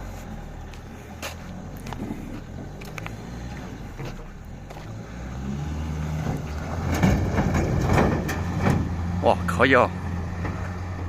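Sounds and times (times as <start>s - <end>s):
truck engine under heavy load: 0.0s - 11.0s.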